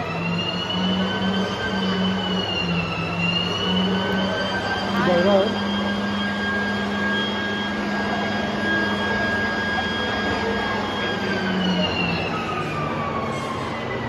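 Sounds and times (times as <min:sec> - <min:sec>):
machine hum: 0:00.0 - 0:11.9
high whine from electric motors: 0:00.0 - 0:14.0.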